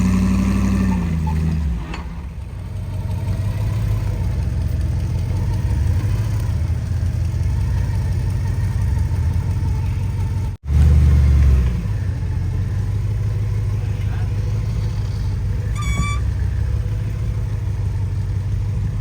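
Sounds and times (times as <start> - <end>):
off-road vehicle engine droning: 0.0 - 19.0.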